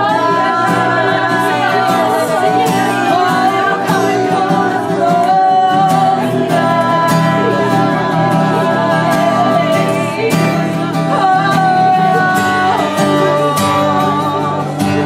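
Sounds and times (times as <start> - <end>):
band with guitar playing: 0.0 - 15.0
long held sung notes: 0.0 - 15.0.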